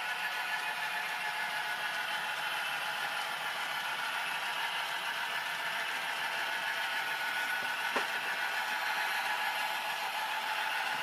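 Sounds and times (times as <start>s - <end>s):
model trains whirring on track: 0.0s - 11.0s.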